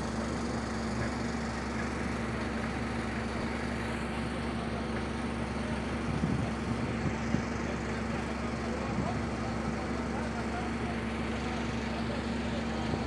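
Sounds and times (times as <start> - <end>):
drilling rig engine droning: 0.0 - 13.0.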